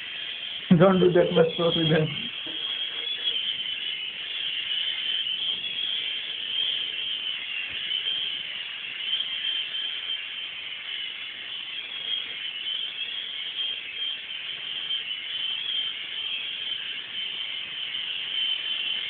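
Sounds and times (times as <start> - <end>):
toy helicopter rotor whine: 0.0 - 19.0.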